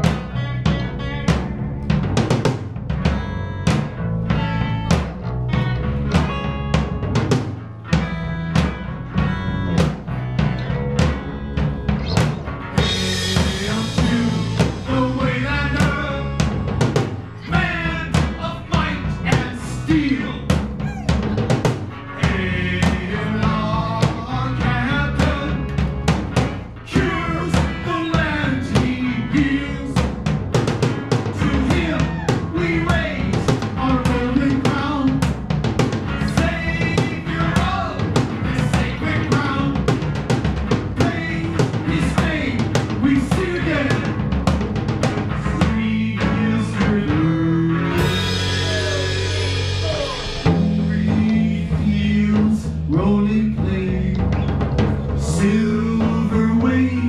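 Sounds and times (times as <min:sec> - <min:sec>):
bass drum and snare beat: 0:00.0 - 0:57.0
electric guitar: 0:00.0 - 0:57.0
live rock band playing: 0:00.0 - 0:57.0.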